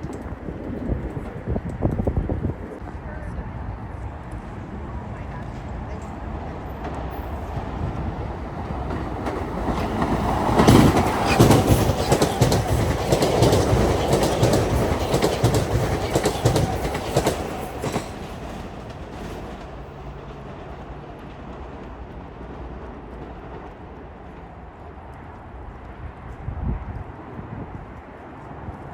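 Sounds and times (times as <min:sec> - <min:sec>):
commuter train rumble: 0:00.0 - 0:28.9.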